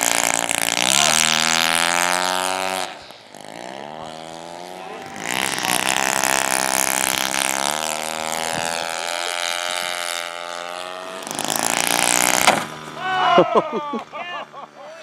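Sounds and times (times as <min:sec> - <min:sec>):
model airplane engine high revs: 0:00.0 - 0:15.0.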